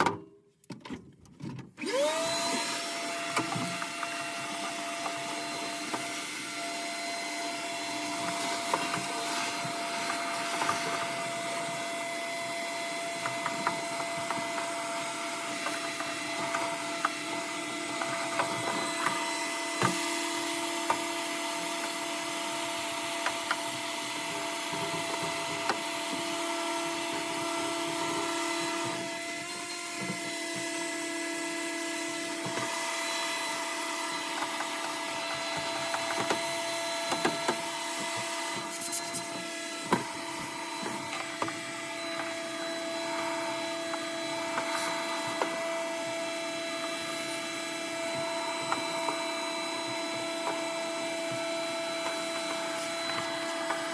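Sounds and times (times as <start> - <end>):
vacuum cleaner running: 1.8 - 53.9.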